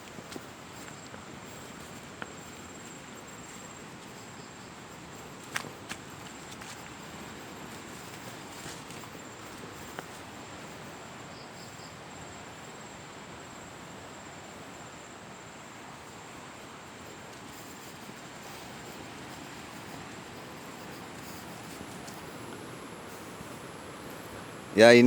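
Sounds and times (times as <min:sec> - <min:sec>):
high insect tone: 0:00.0 - 0:25.0
outdoor hiss: 0:00.0 - 0:25.0.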